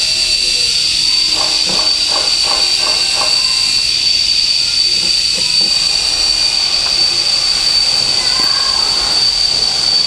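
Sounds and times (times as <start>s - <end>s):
loud high-pitched hiss: 0.0s - 10.0s.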